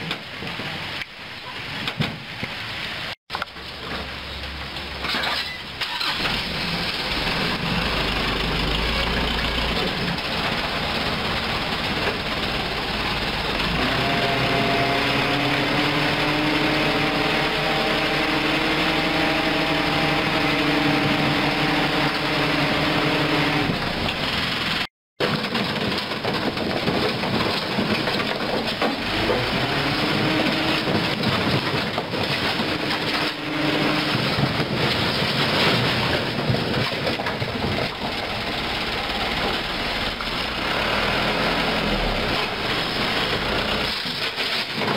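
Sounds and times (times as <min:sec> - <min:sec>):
truck engine running under load: 0:06.0 - 0:24.9, 0:25.5 - 0:44.9.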